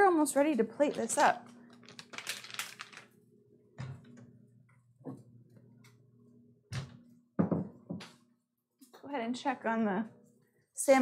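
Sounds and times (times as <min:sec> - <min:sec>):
microwave humming: 0:00.3 - 0:10.0.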